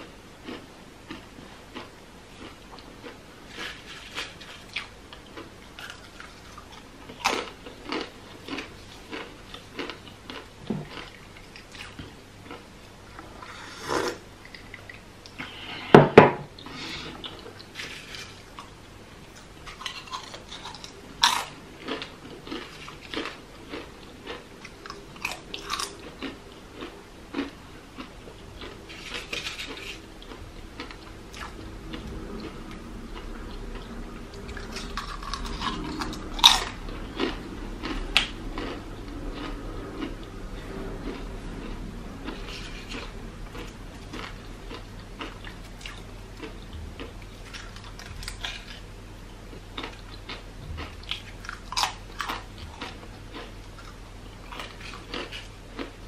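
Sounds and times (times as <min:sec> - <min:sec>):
chips crunching while chewed: 0:00.4 - 0:12.7, 0:16.6 - 0:48.9, 0:49.5 - 0:56.0.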